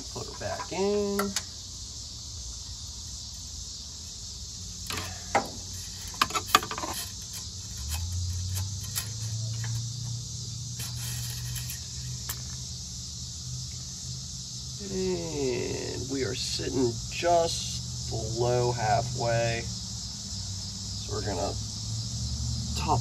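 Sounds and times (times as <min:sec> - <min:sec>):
steady high hiss: 0:00.0 - 0:23.0.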